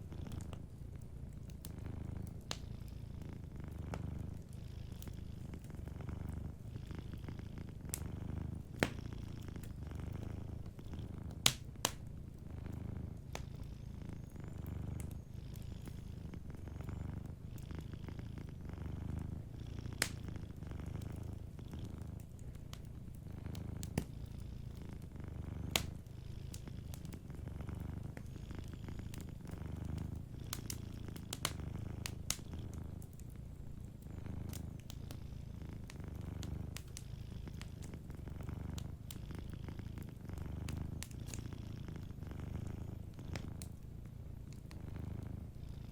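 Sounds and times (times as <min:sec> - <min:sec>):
cat purring: 0:00.0 - 0:45.9
wood fire crackling: 0:00.0 - 0:45.9.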